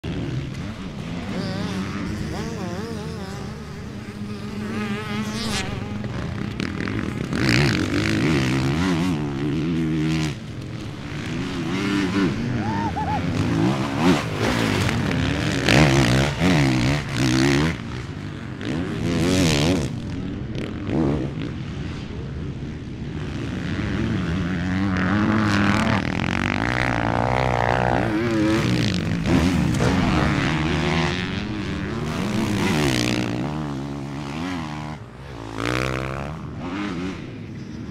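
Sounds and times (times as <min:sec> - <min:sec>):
motorbike engine revving: 0:00.0 - 0:21.6, 0:23.2 - 0:37.9.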